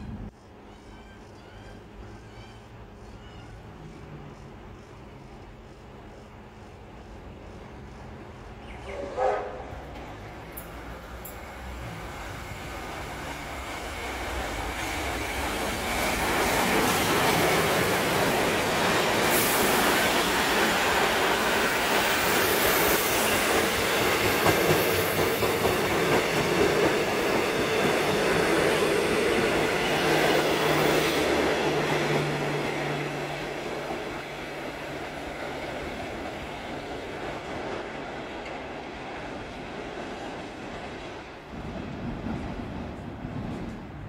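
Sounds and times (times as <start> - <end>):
steam train passing: 0.0 - 44.0.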